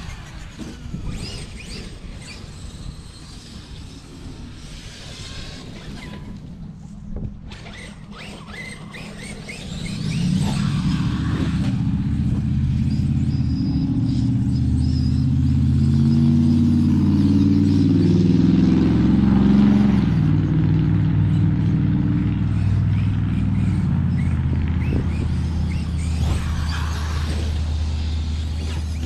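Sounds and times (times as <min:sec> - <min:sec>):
electric toy truck motor hum: 0:00.0 - 0:18.4, 0:19.2 - 0:29.0.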